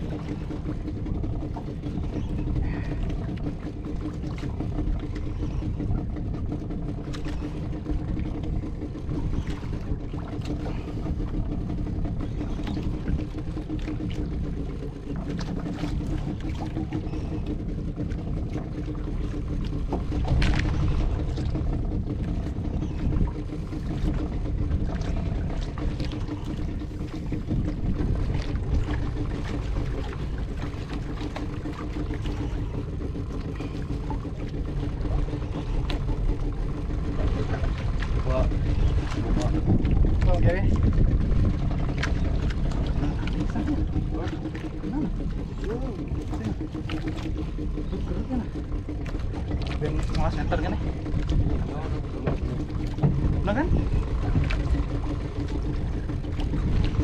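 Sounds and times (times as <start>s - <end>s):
boat engine humming: 0.0s - 57.0s
rumble of wind and water: 0.0s - 57.0s.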